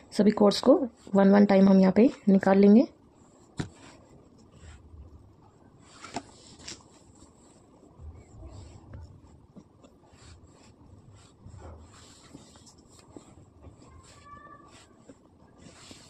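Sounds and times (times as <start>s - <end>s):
cords rustling and rubbing: 0.4s - 16.0s.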